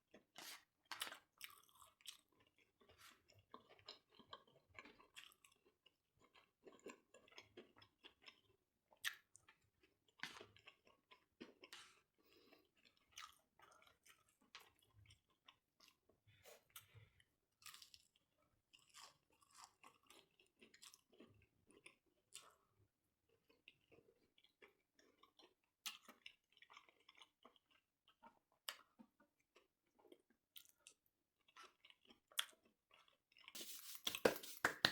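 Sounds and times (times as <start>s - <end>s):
chewing and biting food: 0.1s - 17.0s, 17.6s - 34.9s.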